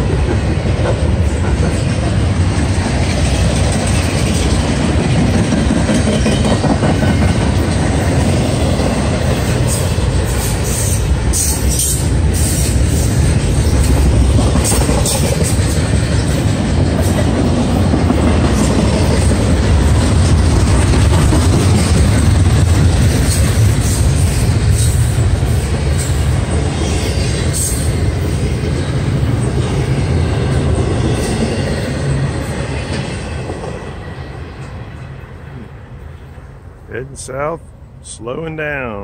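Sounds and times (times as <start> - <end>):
steel wheels rumbling on rails: 0.0 - 36.8.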